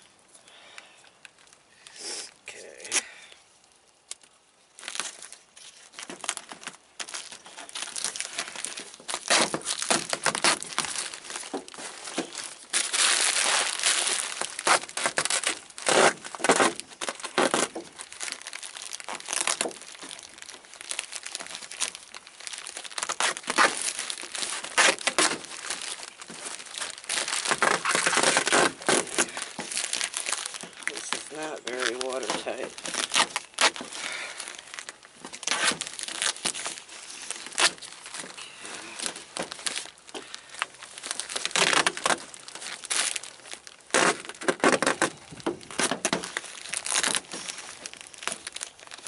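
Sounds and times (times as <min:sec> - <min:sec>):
plastic crinkling and crackling: 0:00.0 - 0:49.0
tape pulled off a roll: 0:03.6 - 0:49.0.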